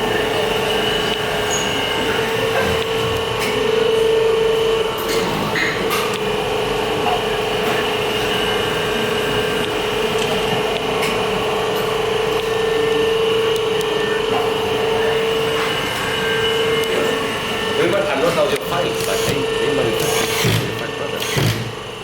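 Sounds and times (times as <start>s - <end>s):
factory machinery hum and whine: 0.0s - 22.0s.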